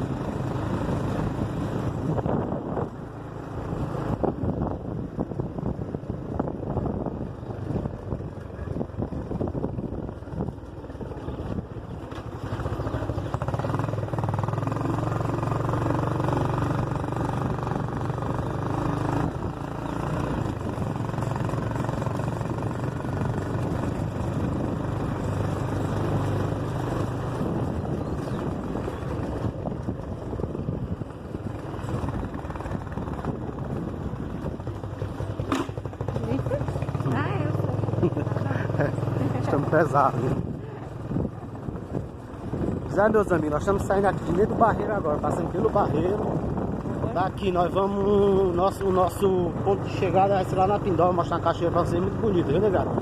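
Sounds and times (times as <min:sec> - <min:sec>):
road and wind noise: 0:00.0 - 0:53.0
vehicle engine running: 0:00.0 - 0:53.0.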